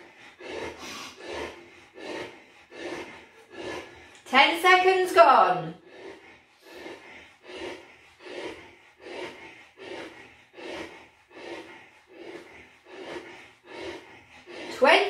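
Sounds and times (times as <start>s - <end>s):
man breathing hard: 0.0s - 4.3s, 5.8s - 14.8s.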